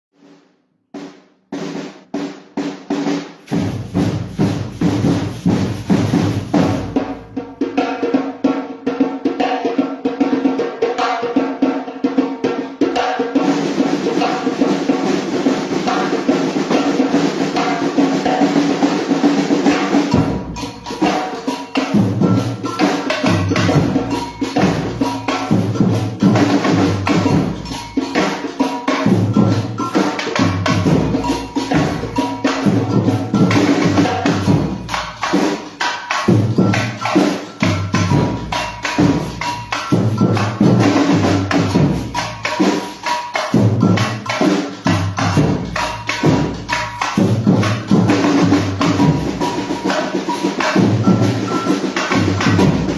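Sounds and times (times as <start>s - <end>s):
samba percussion band drumming: 1.0s - 52.9s.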